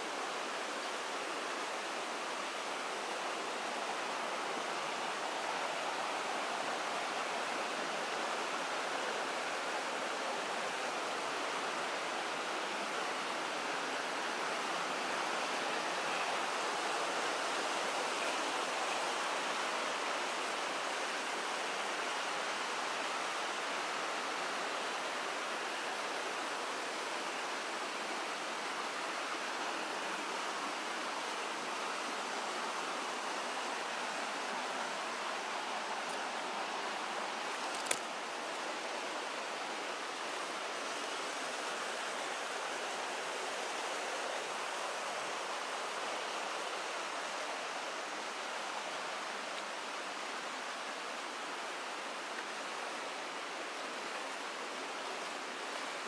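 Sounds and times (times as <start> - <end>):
stream and waterfall rushing: 0.0 - 56.0.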